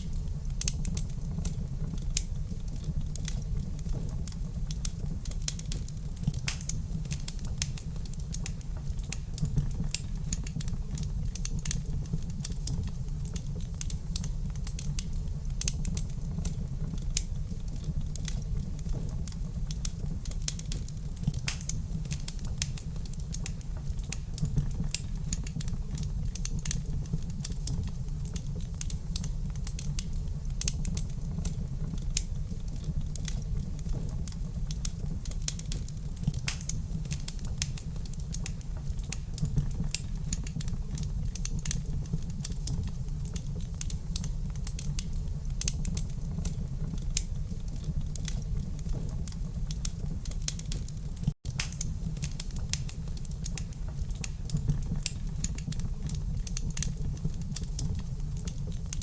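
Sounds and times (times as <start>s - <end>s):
low rumble of flames: 0.0s - 59.0s
sharp pops and snaps of fire: 0.0s - 59.0s
wood fire crackling: 0.0s - 59.0s.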